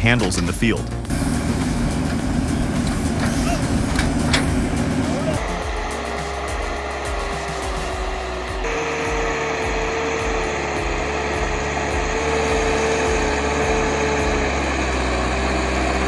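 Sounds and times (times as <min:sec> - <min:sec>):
diesel engine running: 0:00.0 - 0:16.0
hydraulic whine: 0:01.0 - 0:16.0.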